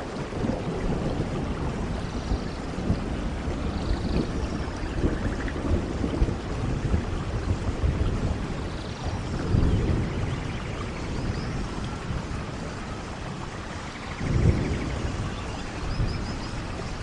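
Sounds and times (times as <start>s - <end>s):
low rolling thunder: 0.0s - 17.0s
steady rain: 0.0s - 17.0s.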